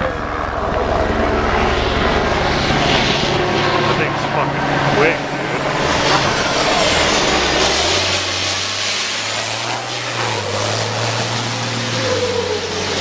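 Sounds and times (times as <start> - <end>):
truck diesel engine passing by: 0.0 - 13.0.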